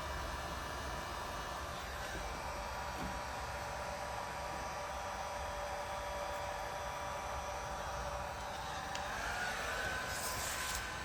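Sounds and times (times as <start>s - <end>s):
hot-air blower running: 0.0s - 11.0s.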